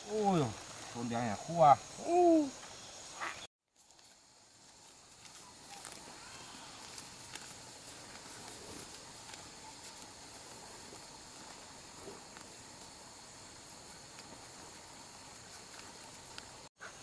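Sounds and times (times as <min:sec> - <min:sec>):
insects calling: 0:00.0 - 0:17.0.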